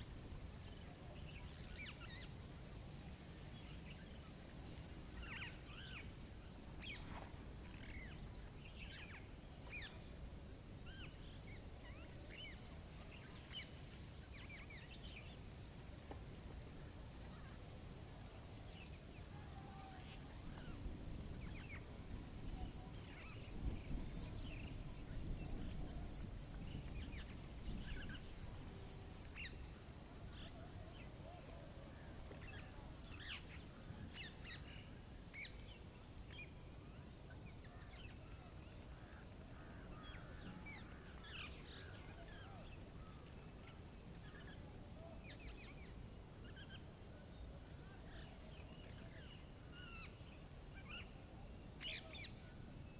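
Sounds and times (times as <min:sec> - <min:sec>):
low rumbling background noise: 0:00.0 - 0:52.9.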